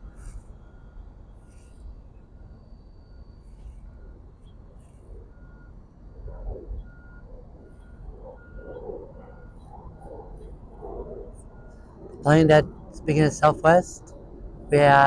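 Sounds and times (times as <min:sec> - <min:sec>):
reversing alarm beeping: 0:00.0 - 0:15.0.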